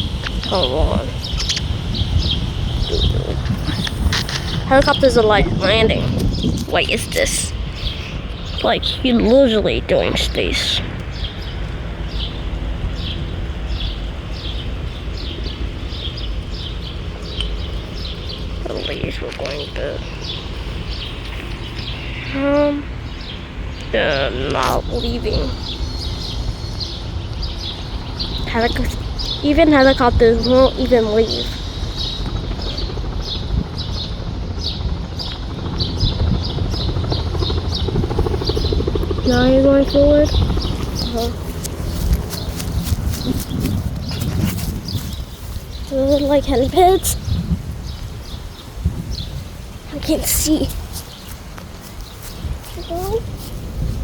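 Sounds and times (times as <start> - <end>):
helicopter turbine and rotors: 0.0 - 54.0
small birds chirping: 0.0 - 54.0.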